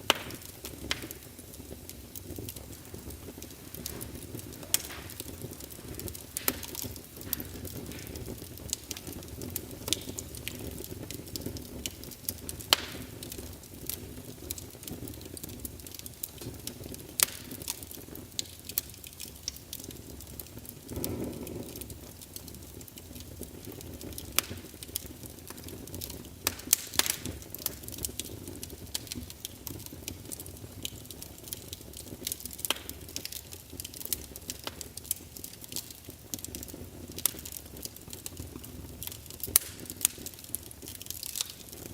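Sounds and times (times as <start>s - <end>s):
burning logs popping: 0.0s - 41.9s
wood fire crackling: 0.0s - 41.9s.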